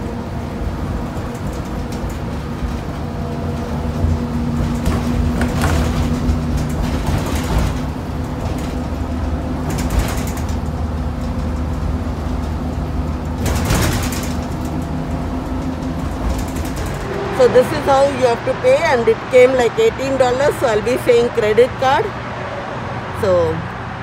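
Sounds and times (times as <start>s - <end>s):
bus engine humming: 0.0s - 24.0s
road noise: 0.0s - 24.0s.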